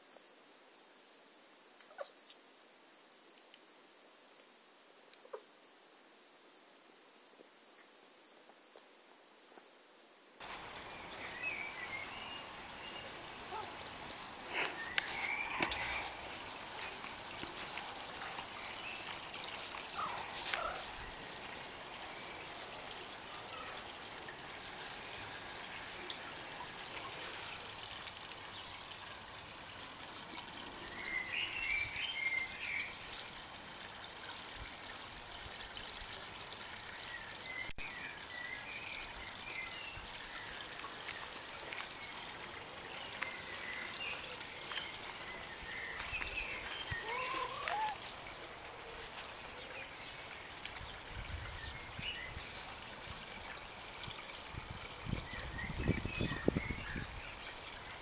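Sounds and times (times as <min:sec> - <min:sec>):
water trickling into a pond: 0:10.4 - 0:58.0.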